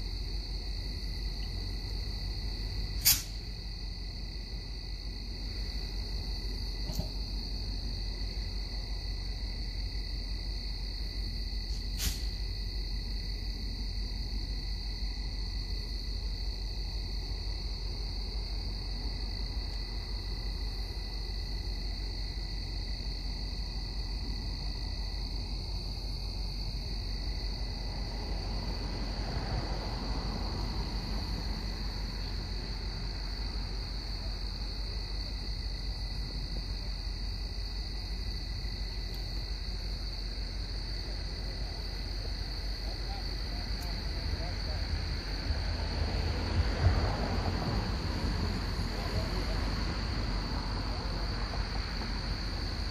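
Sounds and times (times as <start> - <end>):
crickets chirping: 0.0 - 52.9
low steady rumble: 0.0 - 52.9.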